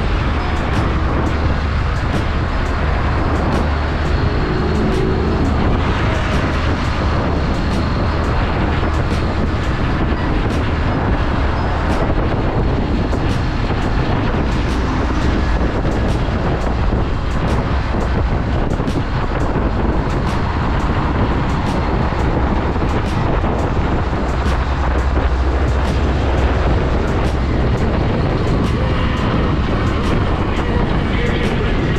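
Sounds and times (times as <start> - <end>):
motorcycle engine drone: 0.0 - 31.9
wind rushing over microphone: 0.0 - 31.9.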